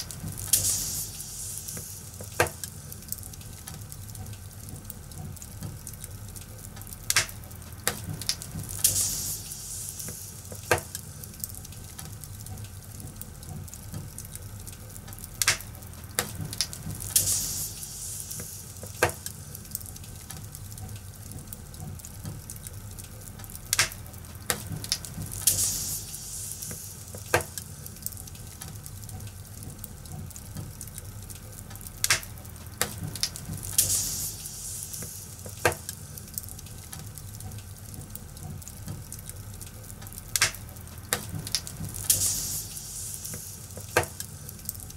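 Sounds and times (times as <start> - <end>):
fire crackling: 0.0 - 44.9
fire pops: 0.0 - 44.9.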